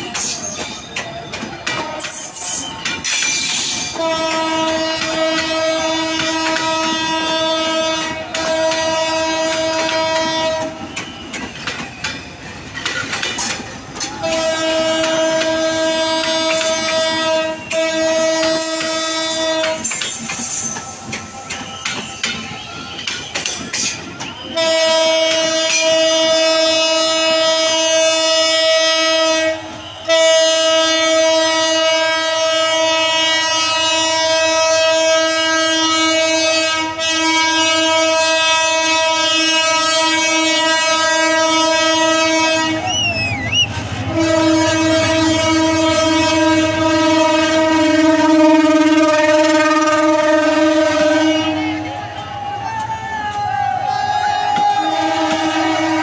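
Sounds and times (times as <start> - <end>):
locomotive horn blasts: 1.6 - 11.9, 13.9 - 52.4, 54.6 - 56.0.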